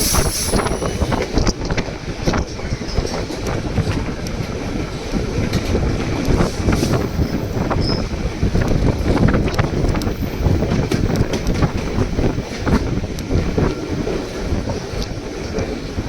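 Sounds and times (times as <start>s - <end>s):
passenger train rumbling: 0.0s - 16.0s
wind buffeting microphone: 0.0s - 16.0s.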